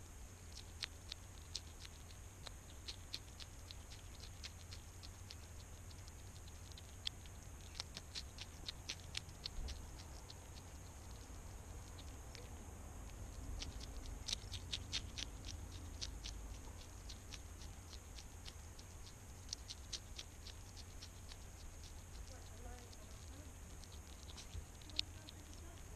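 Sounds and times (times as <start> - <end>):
hedgehog chewing clicks: 0.0 - 25.9.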